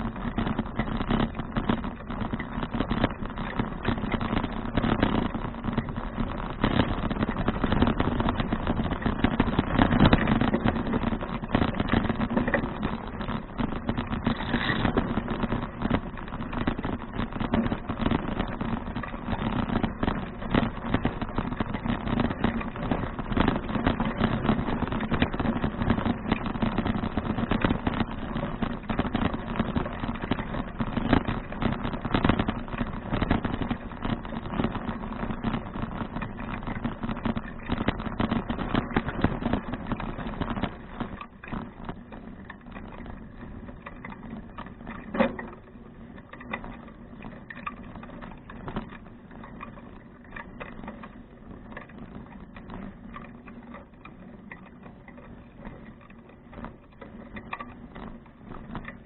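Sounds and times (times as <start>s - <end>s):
bicycle rattling over rough surface: 0.0s - 59.0s.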